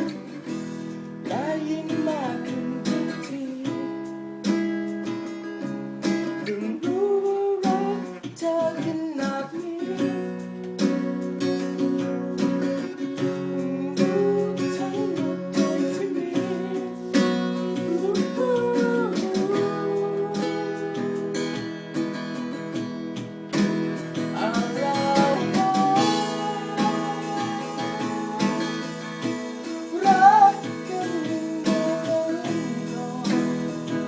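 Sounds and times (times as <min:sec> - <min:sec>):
acoustic guitar strumming: 0:00.0 - 0:34.0
person singing: 0:01.2 - 0:04.2, 0:06.4 - 0:11.2, 0:11.9 - 0:22.6, 0:24.1 - 0:34.0.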